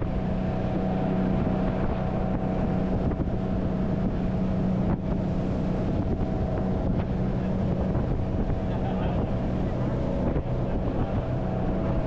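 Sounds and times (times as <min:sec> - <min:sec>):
engine humming steadily: 0:00.0 - 0:12.0
wind buffeting microphone: 0:00.0 - 0:12.0.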